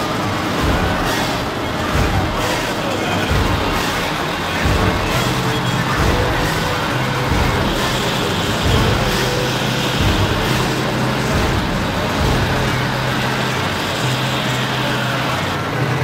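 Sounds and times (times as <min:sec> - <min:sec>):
engine rumble: 0:00.0 - 0:16.0.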